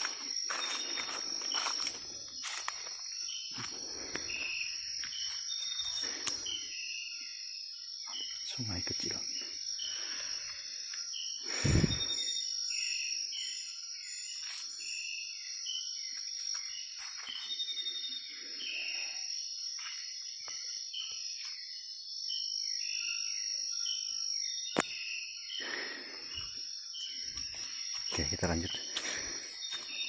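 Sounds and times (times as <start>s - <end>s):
insect drone: 0.0s - 30.0s
insects chirping: 0.0s - 30.0s.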